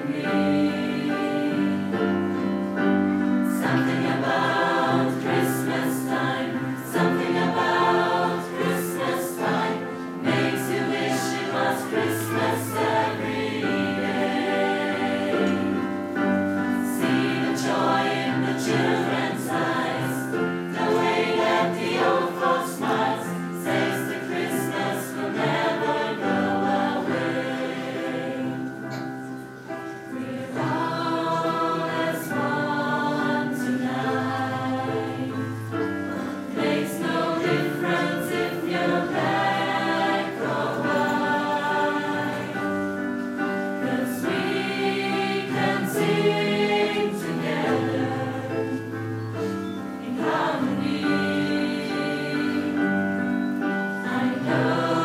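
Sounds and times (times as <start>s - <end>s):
mixed choir singing in harmony: 0.0s - 55.0s.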